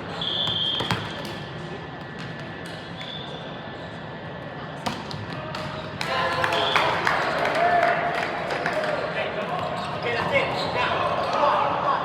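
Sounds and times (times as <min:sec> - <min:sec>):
crowd chatter in a gym: 0:00.0 - 0:12.0.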